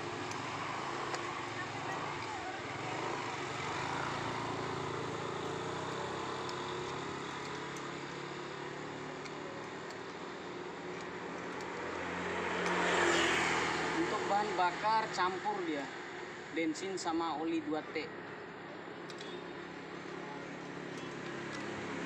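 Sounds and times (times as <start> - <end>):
street traffic passing: 0.0 - 22.0.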